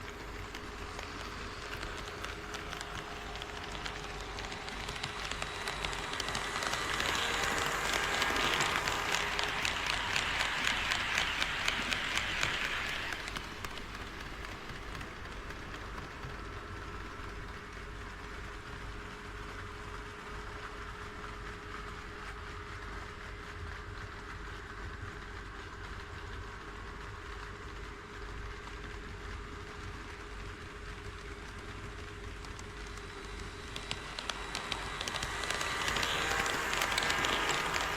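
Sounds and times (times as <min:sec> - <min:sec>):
model train wheels clicking: 0:00.0 - 0:19.6, 0:26.9 - 0:37.9.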